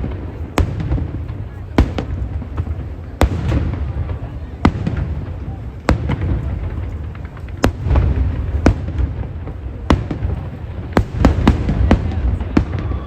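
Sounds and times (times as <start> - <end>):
fireworks cracks and booms: 0.0 - 13.0.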